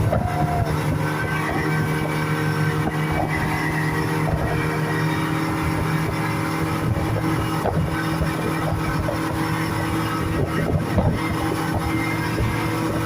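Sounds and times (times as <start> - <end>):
speedboat engine running: 0.0 - 13.0.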